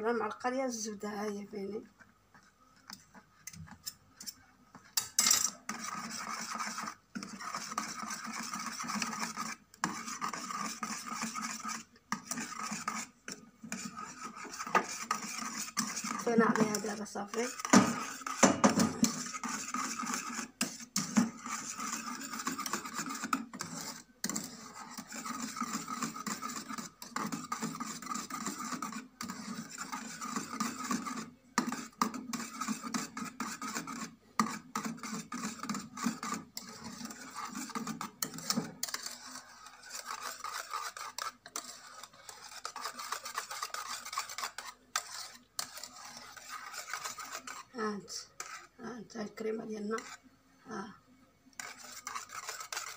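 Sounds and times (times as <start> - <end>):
whisk scraping metal saucepan: 0.7 - 50.3, 51.6 - 52.9.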